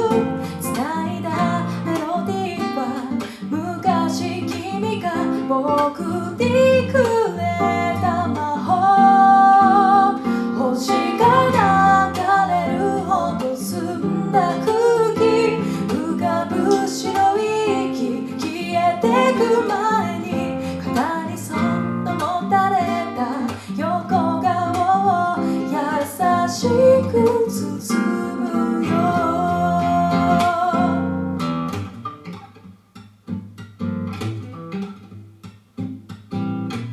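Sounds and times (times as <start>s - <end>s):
person singing: 0.0s - 31.2s
strummed acoustic guitar: 0.0s - 36.9s.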